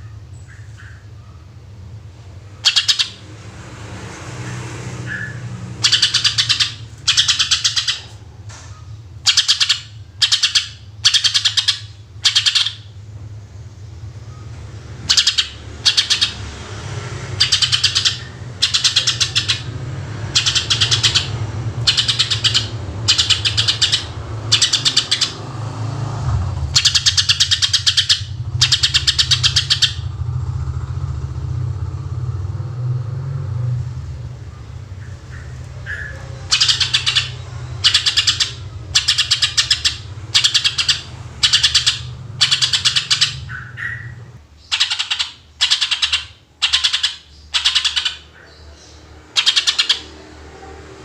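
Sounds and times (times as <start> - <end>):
bird singing in trilled bursts: 0.0 - 1.8, 2.5 - 3.3, 5.1 - 16.6, 17.2 - 25.8, 26.6 - 30.4, 34.3 - 50.2
steady low hum: 0.0 - 44.7.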